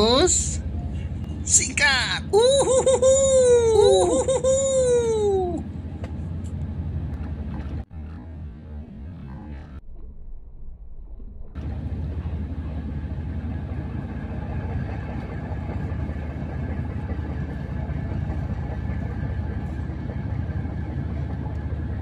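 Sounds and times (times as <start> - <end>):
large engine idling: 0.0 - 8.4, 11.6 - 22.0.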